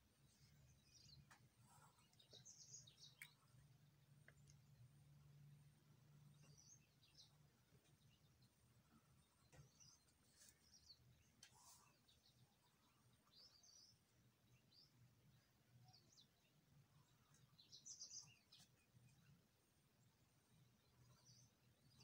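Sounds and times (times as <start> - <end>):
faint bird chirps: 0.1 - 22.0.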